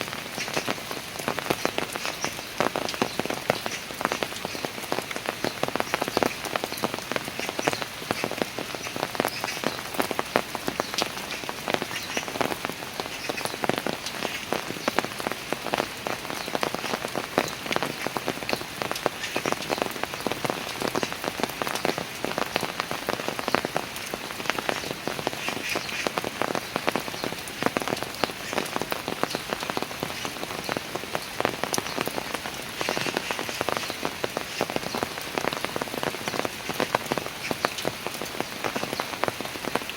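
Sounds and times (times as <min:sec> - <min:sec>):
rain pattering on stairs: 0:00.0 - 0:39.9.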